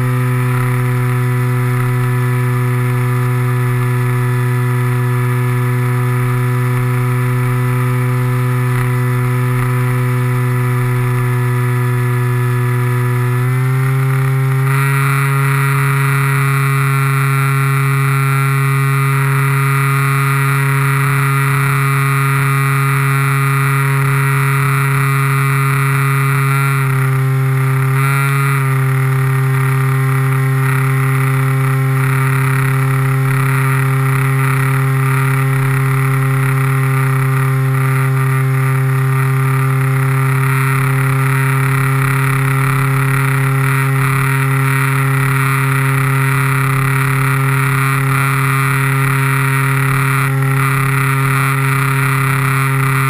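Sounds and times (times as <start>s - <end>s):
model plane motor droning: 0.0s - 53.0s.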